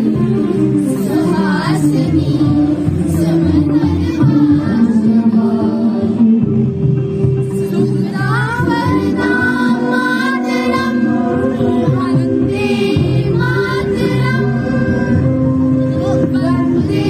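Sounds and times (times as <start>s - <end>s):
girls singing together: 0.0s - 6.4s, 7.7s - 15.4s, 16.0s - 17.0s.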